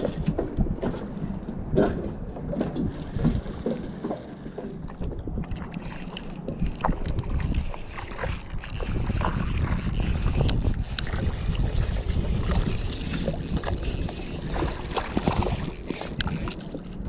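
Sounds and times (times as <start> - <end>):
small waves lapping against hull: 0.0 - 17.0
wind buffeting microphone: 0.0 - 17.0.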